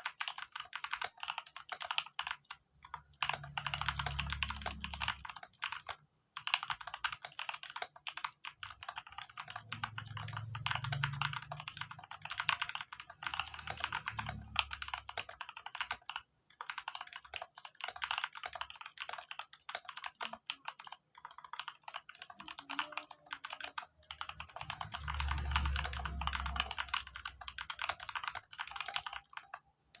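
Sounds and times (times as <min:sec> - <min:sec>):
mechanical keyboard typing: 0:00.0 - 0:30.0.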